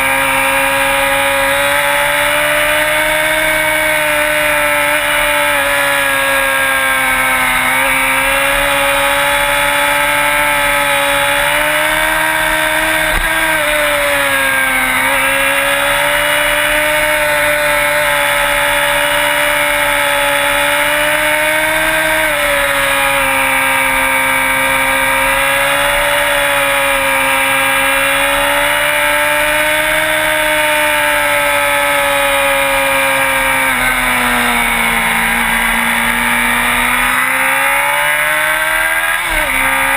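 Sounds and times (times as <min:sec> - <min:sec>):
sport bike engine revving: 0:00.0 - 0:39.9.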